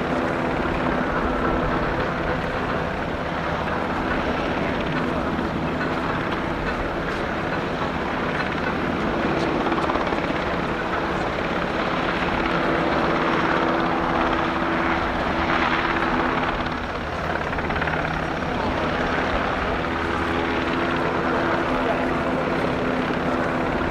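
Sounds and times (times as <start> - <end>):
helicopter rotor and engine: 0.0 - 23.9.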